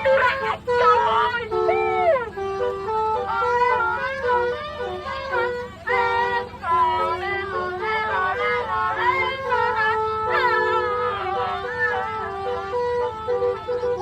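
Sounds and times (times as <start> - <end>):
musical bus horn playing tune: 0.0 - 14.0.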